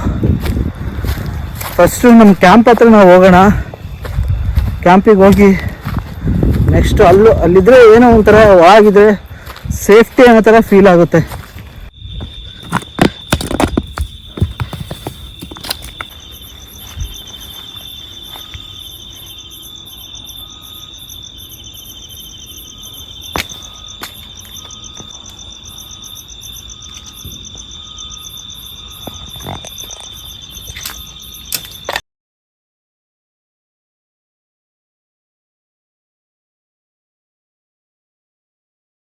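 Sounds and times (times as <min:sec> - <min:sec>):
crickets trilling: 0:00.0 - 0:32.0
insects pulsing trills: 0:00.0 - 0:32.0.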